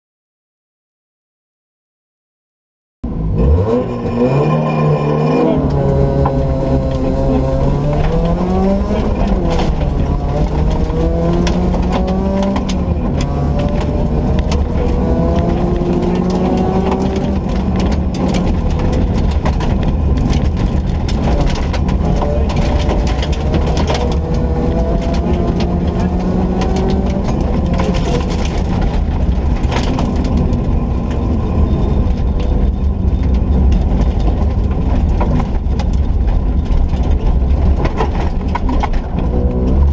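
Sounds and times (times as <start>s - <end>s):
rally car engine accelerating: 3.0s - 39.9s
road and body rumble: 3.0s - 39.9s
sharp clicks and knocks: 5.6s - 39.9s.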